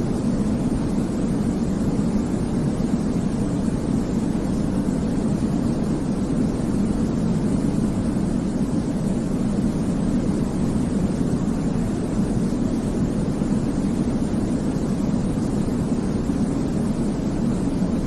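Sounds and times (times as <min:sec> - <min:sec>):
deep white noise: 0:00.0 - 0:18.0.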